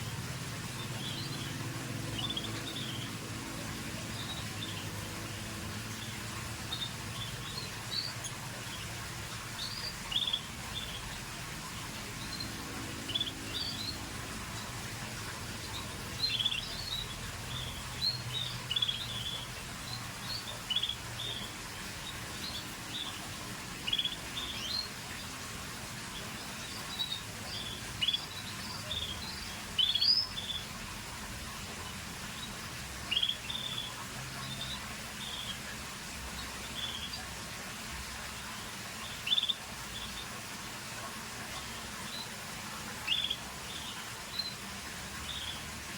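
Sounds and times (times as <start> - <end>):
canaries chirping: 0.0 - 25.3, 26.0 - 37.4, 39.0 - 45.7.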